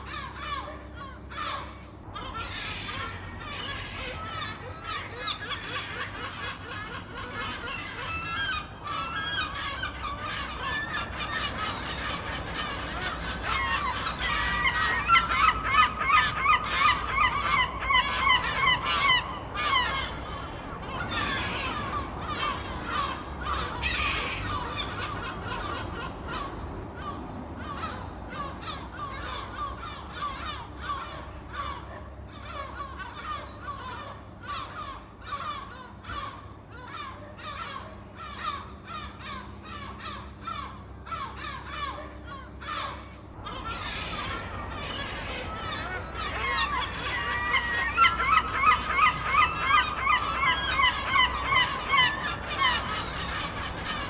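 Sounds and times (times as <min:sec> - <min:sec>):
seagulls squawking: 0:00.0 - 0:54.0.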